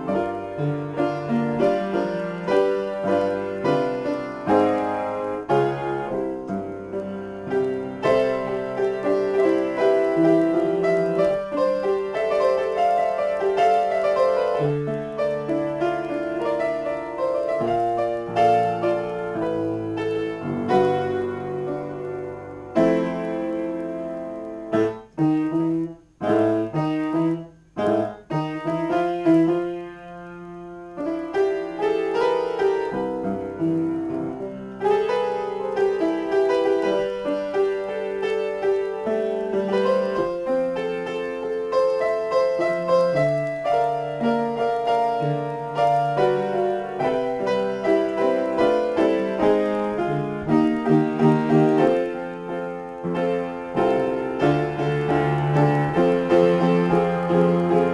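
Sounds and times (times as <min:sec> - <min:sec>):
upright piano improvisation: 0:00.0 - 0:57.9.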